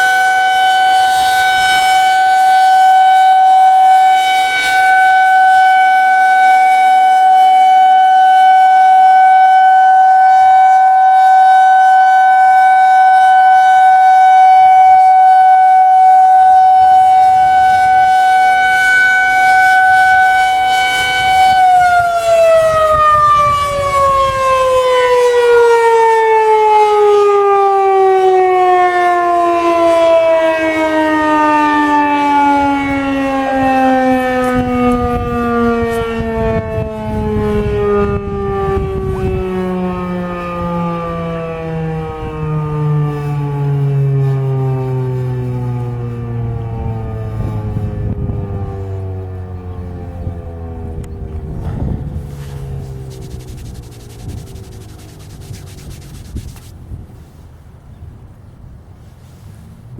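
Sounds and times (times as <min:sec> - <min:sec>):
warning siren winding down: 0:00.0 - 0:56.7.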